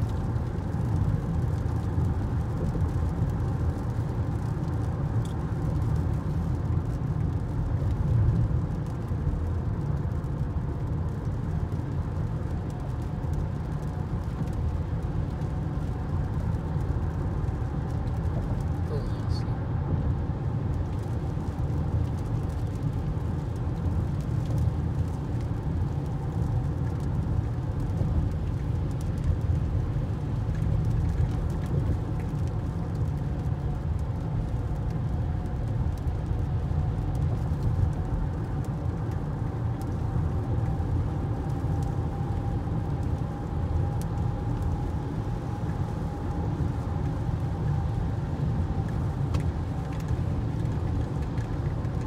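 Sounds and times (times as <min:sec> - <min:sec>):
road and engine rumble: 0:00.0 - 0:52.0.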